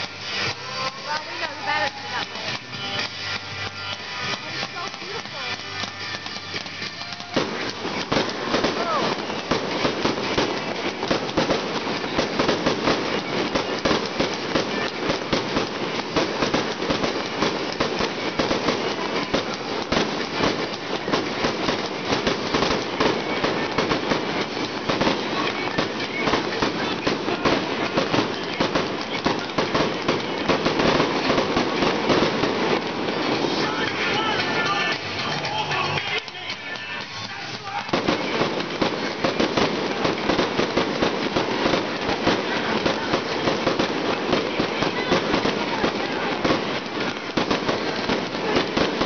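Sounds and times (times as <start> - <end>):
fireworks crackling and popping: 0.0 - 49.0.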